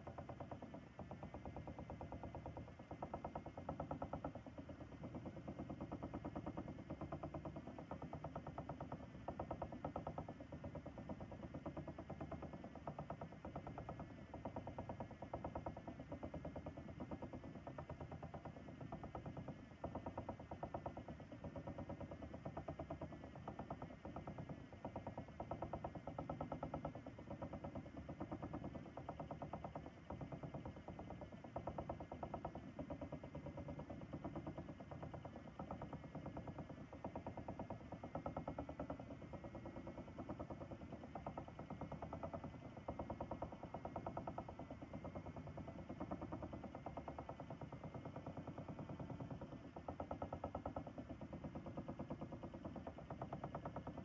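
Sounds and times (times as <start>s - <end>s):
spinning wheel whirring: 0.0s - 54.0s.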